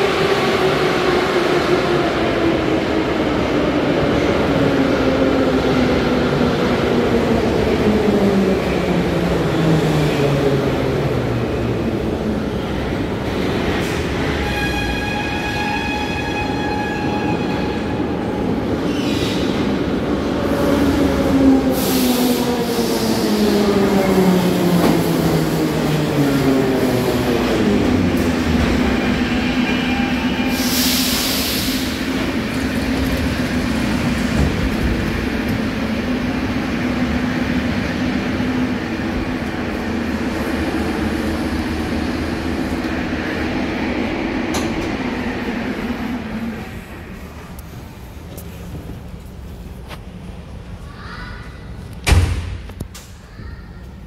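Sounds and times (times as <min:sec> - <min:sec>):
low train hum: 0:00.0 - 0:54.0.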